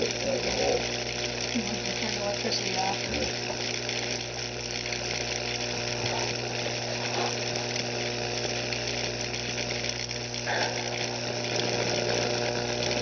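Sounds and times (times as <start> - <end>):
electric arcs buzzing and sizzling: 0.0 - 13.0
steady electrical hum: 0.0 - 13.0.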